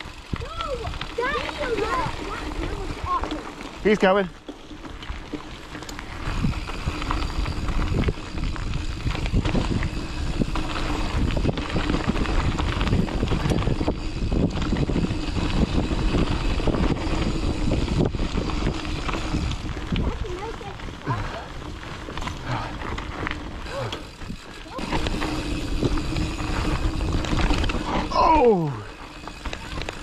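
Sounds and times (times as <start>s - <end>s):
bike knocks and rattles: 0.0s - 30.0s
tyre and wind noise: 0.0s - 30.0s.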